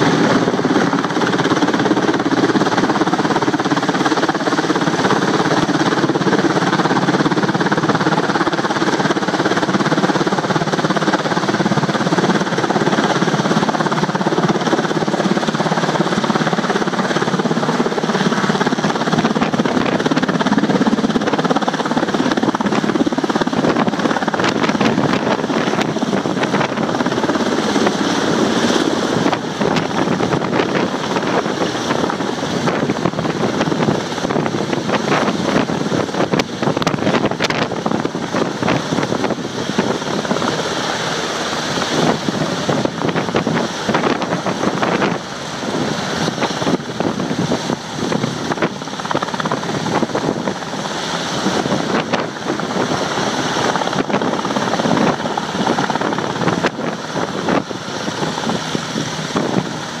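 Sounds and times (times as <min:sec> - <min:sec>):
helicopter rotor and turbine noise: 0:00.0 - 1:00.0.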